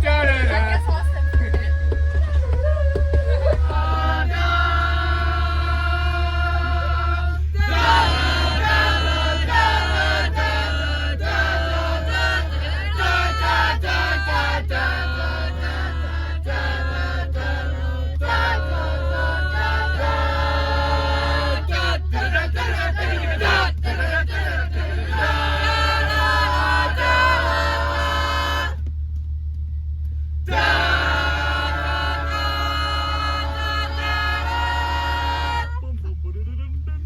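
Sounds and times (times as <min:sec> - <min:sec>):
group of voices singing: 0:00.0 - 0:28.8, 0:30.5 - 0:35.8
low hum: 0:00.0 - 0:37.0.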